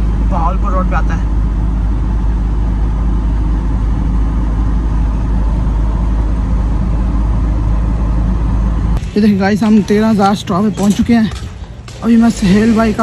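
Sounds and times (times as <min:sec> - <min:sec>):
vehicle engine drone: 0:00.0 - 0:13.0
wind and road noise rumble: 0:00.0 - 0:13.0.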